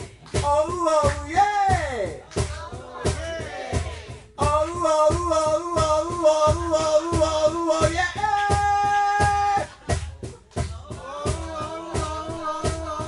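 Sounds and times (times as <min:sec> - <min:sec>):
strummed guitars: 0:00.0 - 0:13.0.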